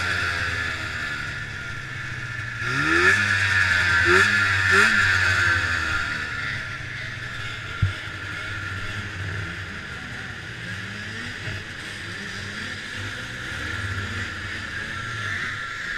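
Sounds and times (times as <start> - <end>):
snowmobile engine at low revs: 0.0 - 15.9.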